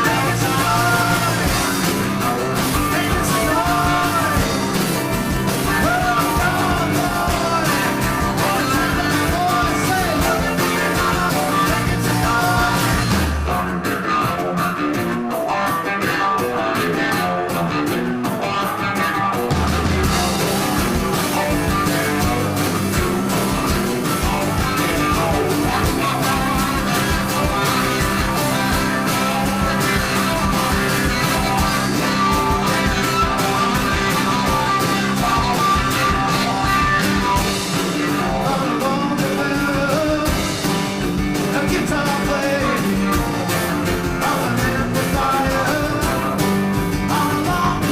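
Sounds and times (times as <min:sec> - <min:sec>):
rock music with singing: 0:00.0 - 0:47.9.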